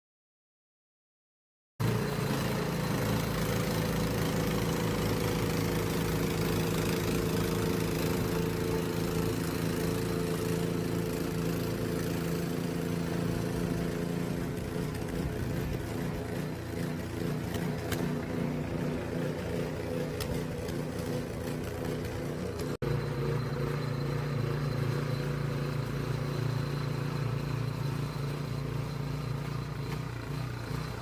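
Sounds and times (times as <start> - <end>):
snow blower engine running: 1.8 - 31.0.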